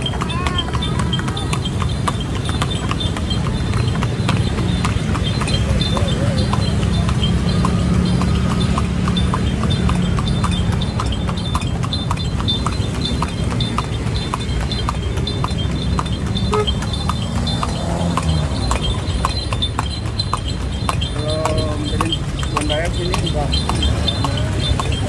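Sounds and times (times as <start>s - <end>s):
horse hooves clip-clopping on road: 0.0s - 25.0s.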